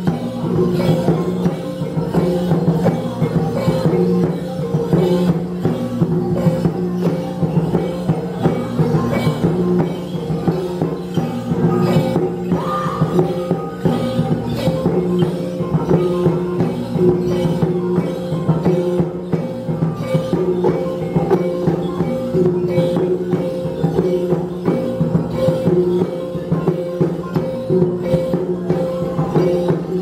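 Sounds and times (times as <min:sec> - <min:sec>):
light percussion strokes: 0:00.0 - 0:30.0.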